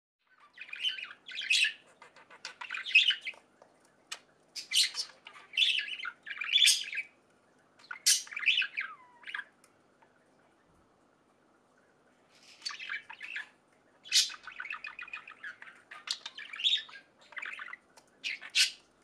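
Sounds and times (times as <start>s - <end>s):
budgerigars chirping and chattering: 0.3s - 3.5s, 4.1s - 7.2s, 7.8s - 10.2s, 12.4s - 18.9s.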